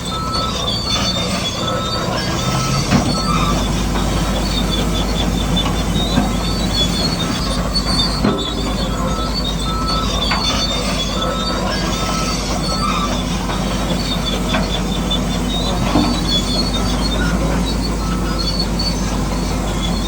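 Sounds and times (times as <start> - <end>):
electric motors whining: 0.0 - 20.0
metal tracks squealing and clicking: 0.0 - 20.0.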